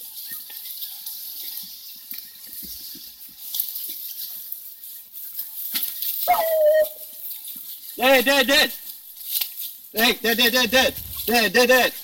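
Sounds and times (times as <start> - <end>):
footsteps crunching through leaves: 0.0 - 12.0.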